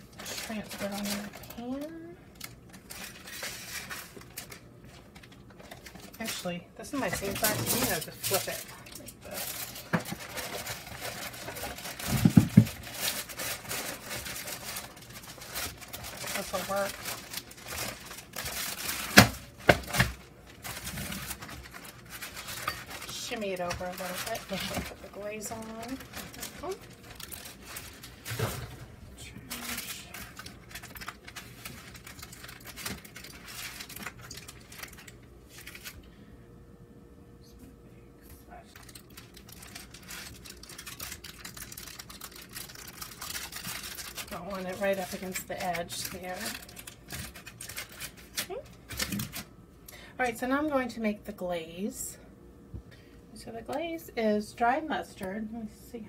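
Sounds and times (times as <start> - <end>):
paper and foil crinkling: 0.0 - 36.3, 38.2 - 49.6.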